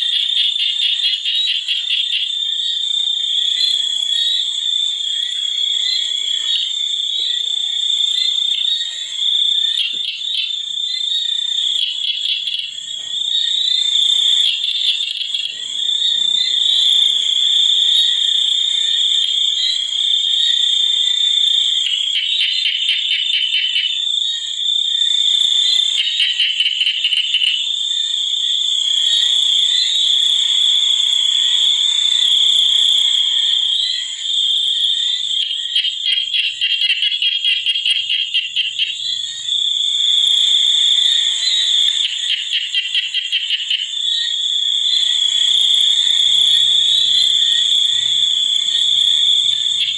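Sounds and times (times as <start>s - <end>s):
frogs and insects buzzing: 0.0s - 49.9s.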